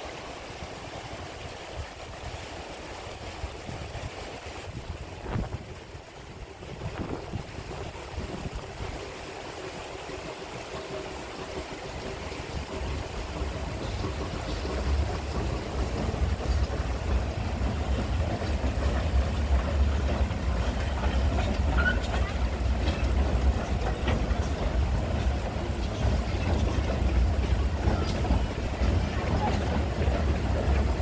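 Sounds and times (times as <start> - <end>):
river rushing: 0.0 - 31.0
steam train rumble: 0.0 - 31.0.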